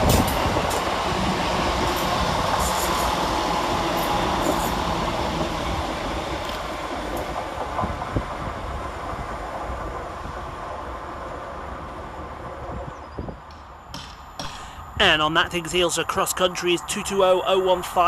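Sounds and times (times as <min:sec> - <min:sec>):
diesel train passing: 0:00.0 - 0:18.0.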